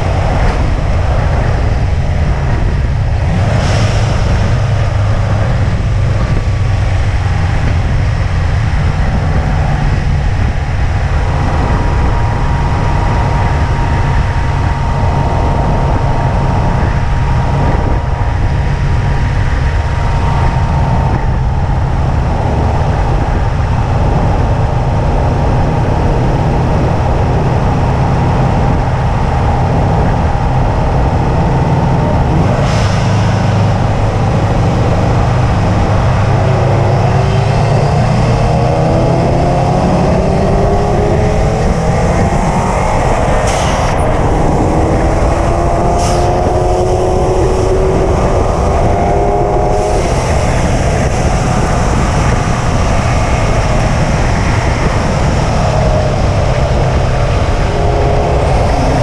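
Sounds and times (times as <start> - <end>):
car engine rumbling: 0.0 - 59.0
high whine: 0.0 - 59.0.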